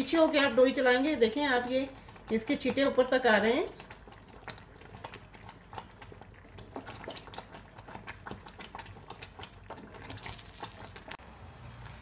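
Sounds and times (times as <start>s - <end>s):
wooden spoon stirring: 0.0s - 11.2s
syrup bubbling and popping in pot: 0.0s - 12.0s.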